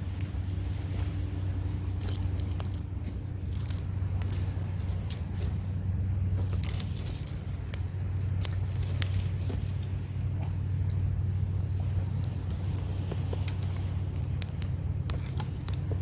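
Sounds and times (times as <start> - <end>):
surf rumbling: 0.0 - 16.0
wood fire crackling: 0.0 - 16.0.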